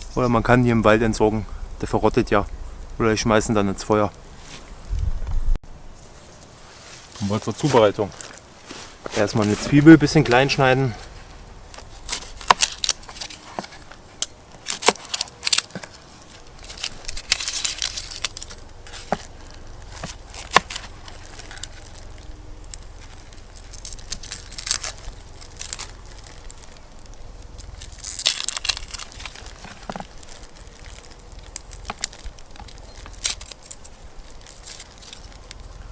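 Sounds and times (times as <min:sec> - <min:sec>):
crackly rustling: 0:00.0 - 0:35.9.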